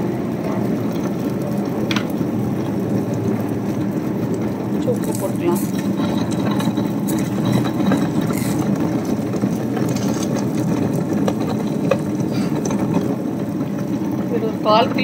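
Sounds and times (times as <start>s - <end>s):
wet grinder running: 0.0s - 15.0s.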